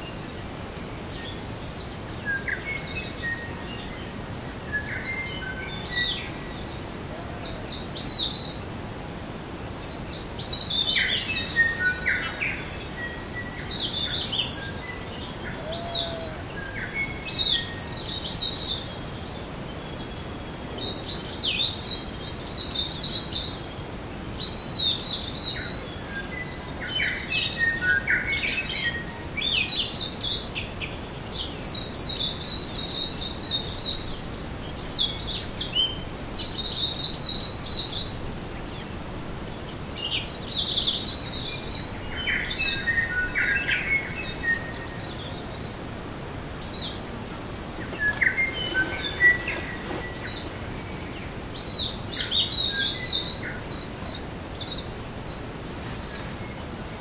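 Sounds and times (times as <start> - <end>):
birds singing: 0.0 - 8.8, 9.4 - 57.0
steady background hiss: 0.0 - 57.0.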